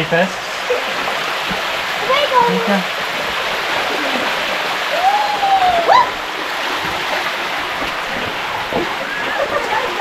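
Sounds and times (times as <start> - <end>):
stream water rushing over rocks: 0.0 - 10.0.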